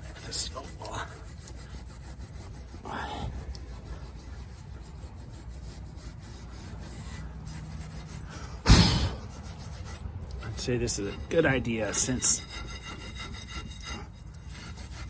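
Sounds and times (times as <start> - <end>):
hand tool scraping brake parts: 0.0 - 15.0.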